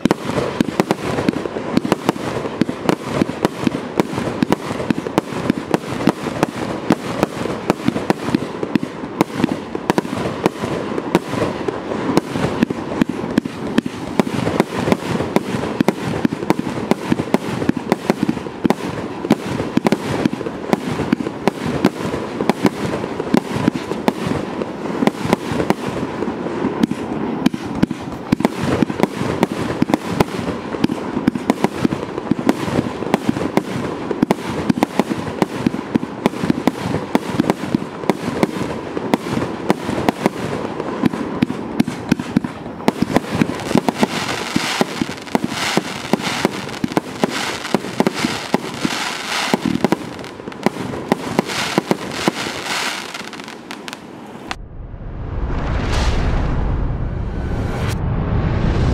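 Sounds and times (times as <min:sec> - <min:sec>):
fireworks bangs and pops: 0:00.0 - 0:54.6.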